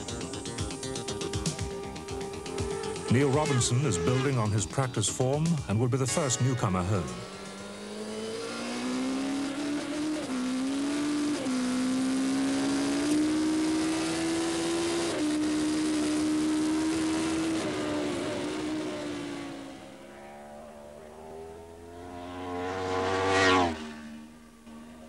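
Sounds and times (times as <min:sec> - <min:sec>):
racing motorcycle engine: 0:00.0 - 0:25.0.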